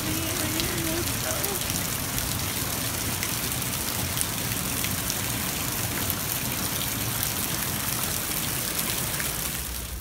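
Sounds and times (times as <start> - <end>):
heavy rain splashing on water: 0.0 - 10.0.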